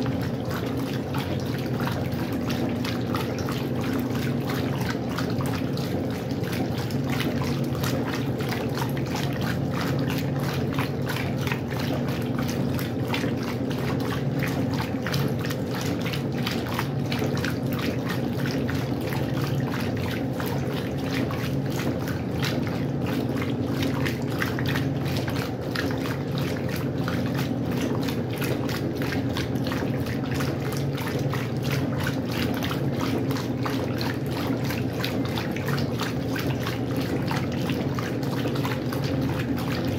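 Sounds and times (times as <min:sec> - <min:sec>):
washing machine running: 0:00.0 - 0:39.9
water splashing and trickling: 0:00.0 - 0:39.9.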